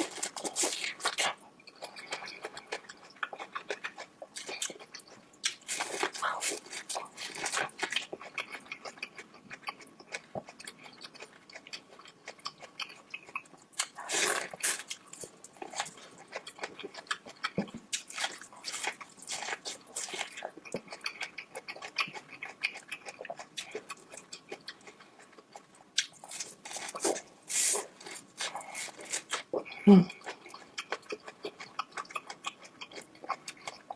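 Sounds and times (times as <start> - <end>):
person chewing seafood: 0.0 - 33.9.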